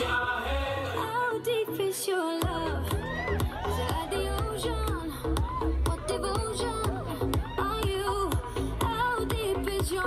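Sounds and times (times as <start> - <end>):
pop dance music with vocals: 0.0 - 10.0.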